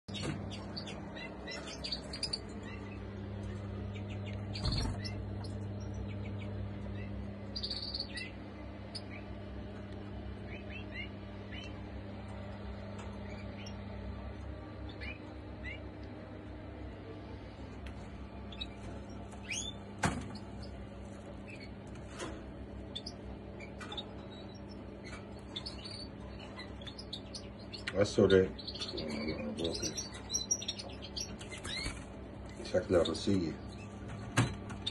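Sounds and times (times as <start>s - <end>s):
birds chirping: 0.0s - 34.9s
steady low hum: 0.0s - 34.9s.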